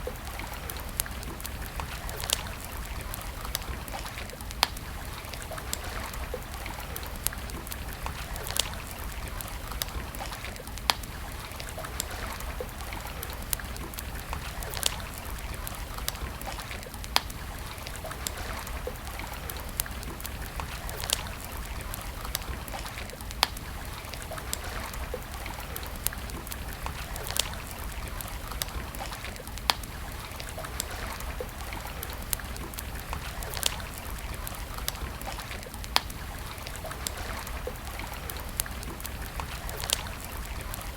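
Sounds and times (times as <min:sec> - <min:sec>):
campfire crackling and popping: 0:00.0 - 0:40.9
trickling running water: 0:00.0 - 0:40.9.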